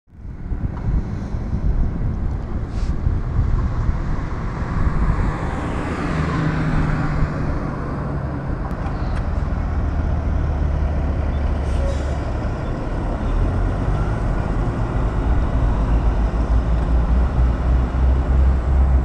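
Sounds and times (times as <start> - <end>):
traffic rumble: 0.1 - 19.0
car passing close by: 3.6 - 19.0.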